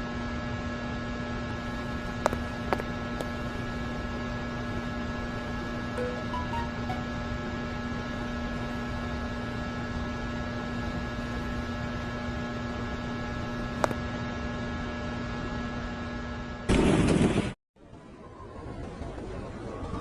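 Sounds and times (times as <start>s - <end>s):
electrical hum with hiss: 0.0s - 16.6s.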